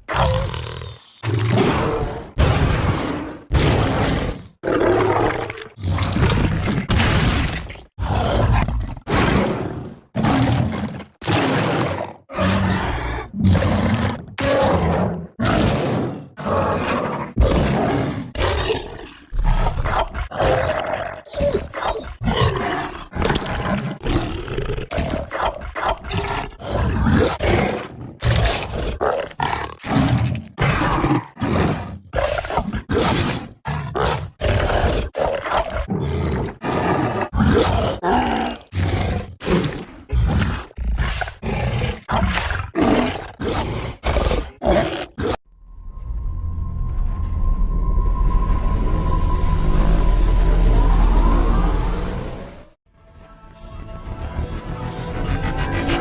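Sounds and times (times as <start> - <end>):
monster roars and growls: 0.0 - 45.9, 47.1 - 52.8.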